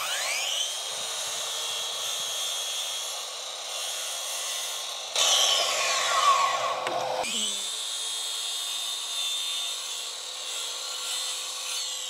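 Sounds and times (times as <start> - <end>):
miter saw whining: 0.0 - 12.0
saw cutting through wood: 0.0 - 12.0.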